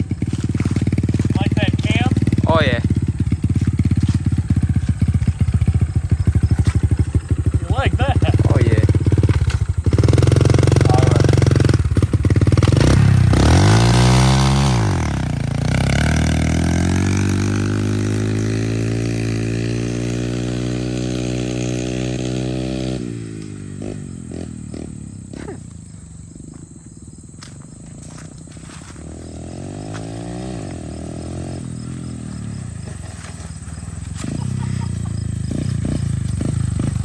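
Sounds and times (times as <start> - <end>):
pit bike engine revving: 0.0 - 25.9, 27.1 - 37.0.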